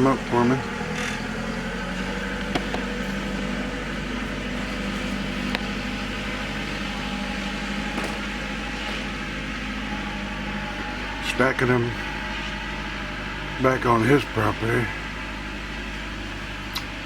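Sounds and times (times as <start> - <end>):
faint engine knocks: 0.0 - 14.2
engine idling: 0.0 - 17.0.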